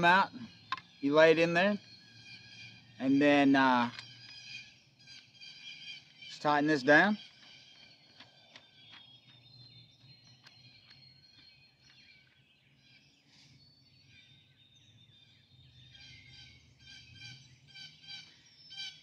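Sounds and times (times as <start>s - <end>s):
faint bird calls: 0.0s - 19.0s.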